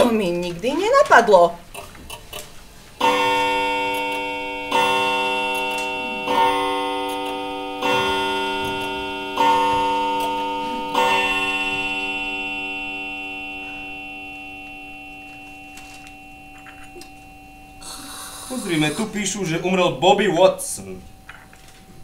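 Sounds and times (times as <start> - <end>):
deep clock chime: 3.0 - 22.0.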